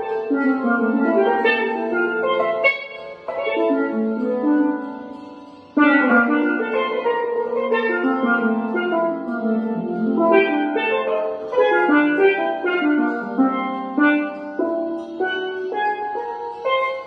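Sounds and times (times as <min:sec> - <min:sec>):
steel pans melody: 0:00.0 - 0:17.0.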